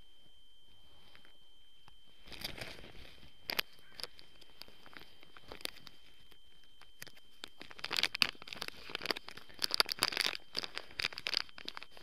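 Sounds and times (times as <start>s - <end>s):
plastic packet crinkling: 2.2s - 12.0s.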